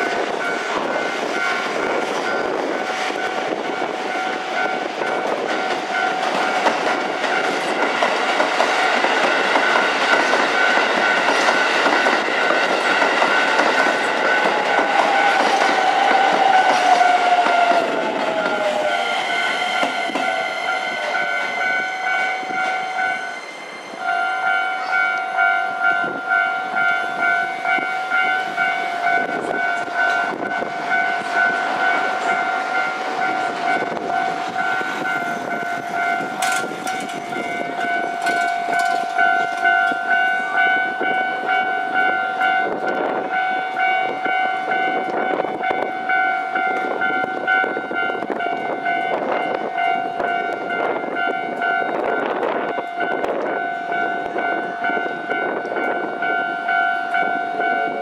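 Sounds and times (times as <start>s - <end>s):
electric train running: 0.0s - 58.0s
level-crossing warning bell: 0.0s - 58.0s
train whine falling in pitch: 0.0s - 58.0s.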